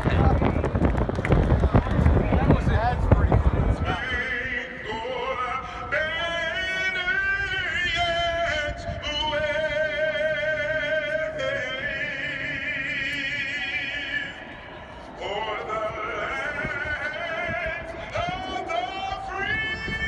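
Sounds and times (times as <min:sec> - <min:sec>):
person singing operatically: 0:03.8 - 0:20.0.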